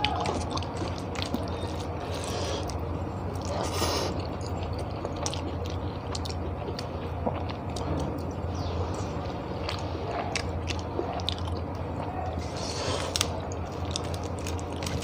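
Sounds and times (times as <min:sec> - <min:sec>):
mouth chewing with wet clicks: 0:00.0 - 0:15.0
steady low hum: 0:00.0 - 0:15.0.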